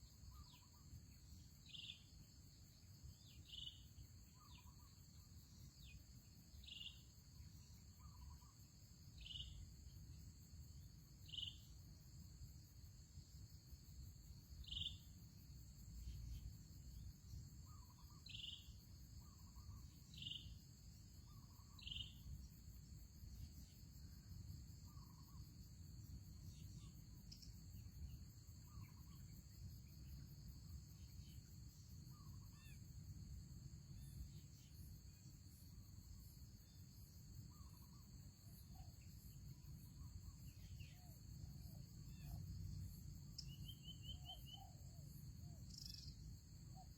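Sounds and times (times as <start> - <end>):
insects trilling: 0.0 - 46.9.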